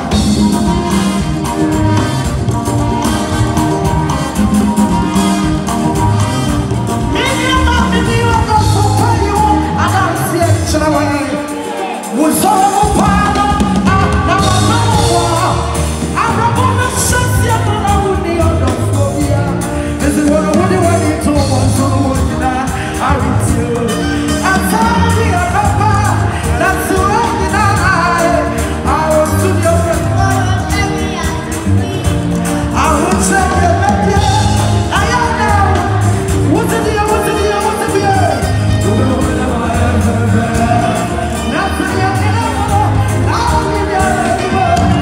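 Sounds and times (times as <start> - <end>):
bass guitar: 0.0 - 45.0
drums: 0.0 - 45.0
live gospel band: 0.0 - 45.0.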